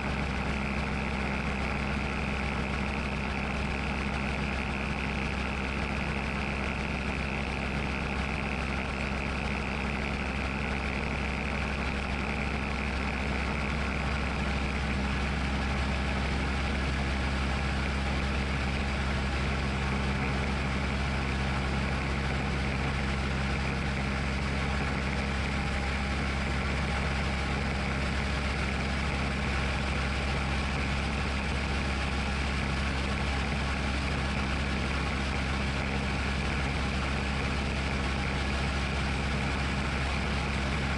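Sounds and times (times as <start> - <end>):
airplane engine and propeller droning: 0.0 - 40.9.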